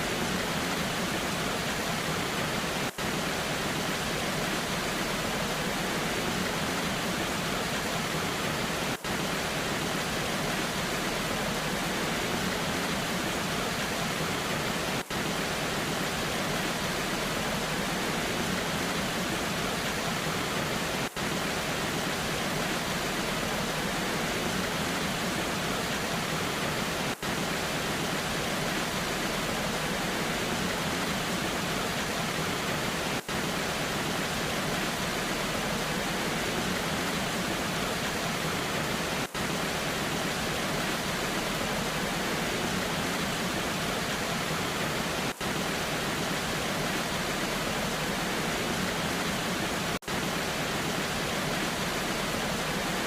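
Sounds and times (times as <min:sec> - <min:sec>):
rain: 0:00.0 - 0:53.0
waterfall rushing: 0:00.0 - 0:53.0.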